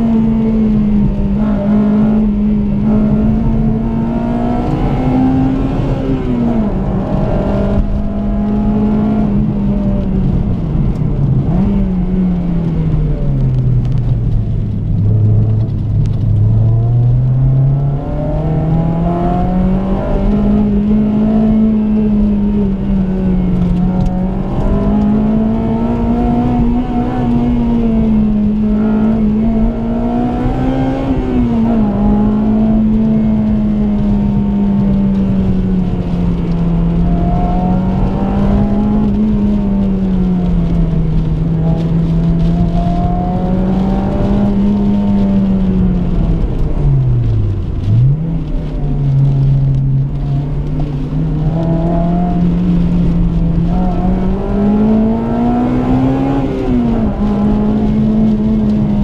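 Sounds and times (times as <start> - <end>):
car engine revving hard: 0.0 - 12.4, 15.0 - 59.0
tyre and road noise: 0.0 - 59.0.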